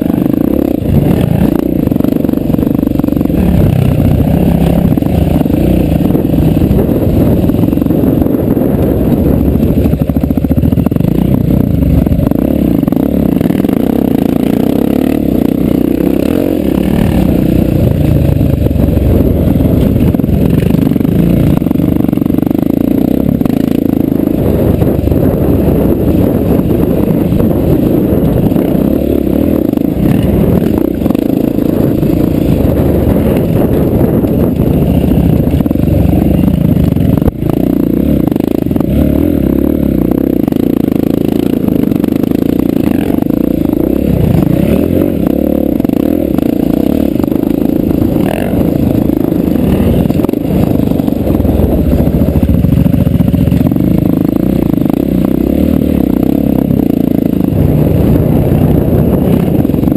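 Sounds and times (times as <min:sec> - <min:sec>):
dirt bike engine under throttle: 0:00.0 - 0:59.9.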